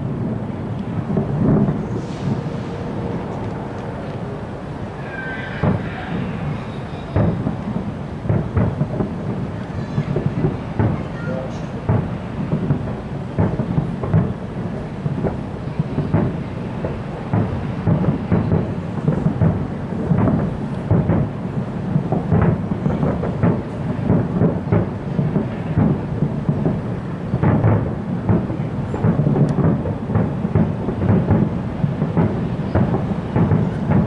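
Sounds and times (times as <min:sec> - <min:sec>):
fireworks bursting in barrage: 0:00.0 - 0:34.0.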